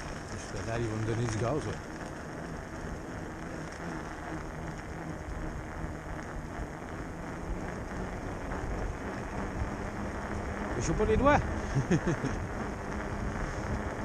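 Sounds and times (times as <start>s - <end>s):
electric bike motor hum: 0.0s - 14.0s
wind noise on microphone: 0.0s - 14.0s.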